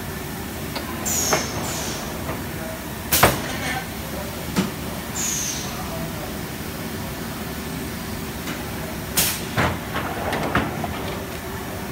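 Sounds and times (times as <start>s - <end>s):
workshop machinery humming: 0.0s - 11.9s.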